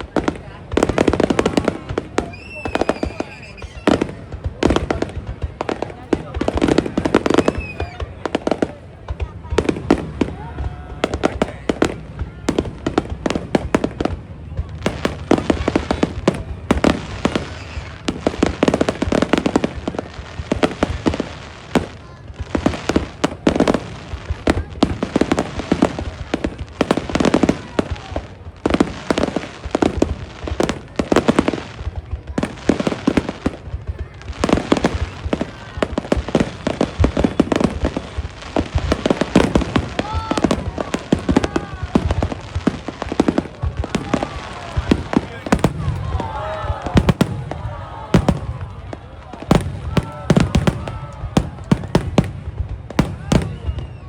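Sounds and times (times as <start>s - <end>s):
crowd voices: 0.0s - 54.0s
fireworks bangs: 0.0s - 54.0s.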